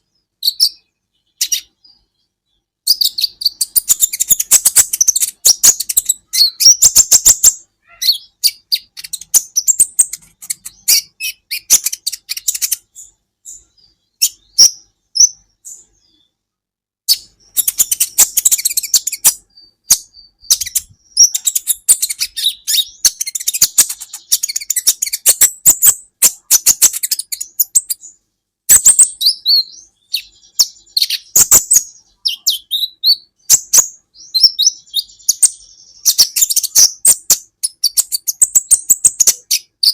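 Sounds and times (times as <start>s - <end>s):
bird twittering: 0.0s - 2.3s, 2.9s - 16.3s, 17.1s - 39.9s.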